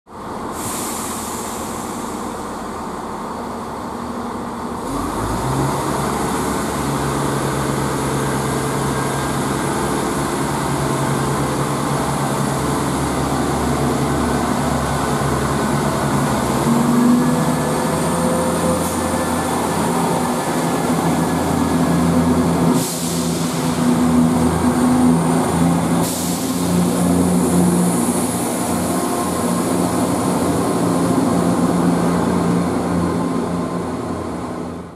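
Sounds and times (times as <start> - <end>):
diesel train engine: 0.1 - 34.9.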